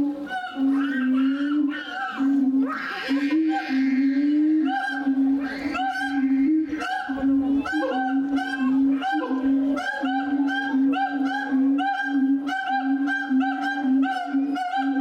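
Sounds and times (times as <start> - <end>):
ape calling loudly: 0.0 - 15.0.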